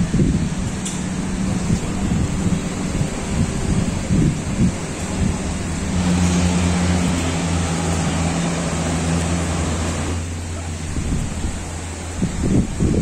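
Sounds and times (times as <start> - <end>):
boat engine humming: 0.0 - 13.0
wind and surf hiss: 0.0 - 13.0.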